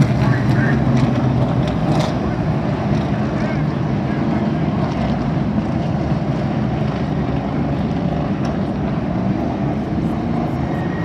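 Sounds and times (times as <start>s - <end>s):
stock car engines running: 0.0s - 11.0s.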